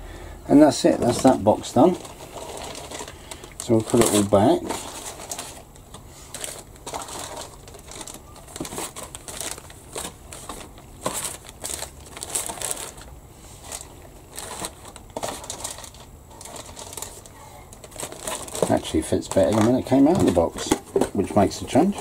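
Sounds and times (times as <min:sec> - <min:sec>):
plastic bags crinkling: 0:00.6 - 0:22.0.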